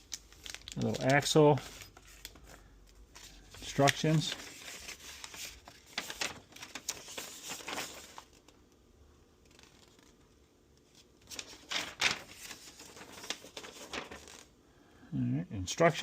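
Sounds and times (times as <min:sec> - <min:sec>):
paper and plastic crinkling: 0:00.0 - 0:08.6, 0:09.4 - 0:14.5.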